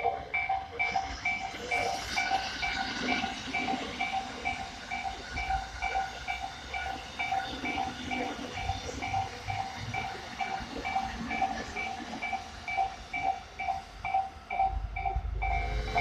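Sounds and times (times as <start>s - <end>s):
level crossing alarm bell: 0.0s - 16.0s
passing train rushing: 0.0s - 16.0s.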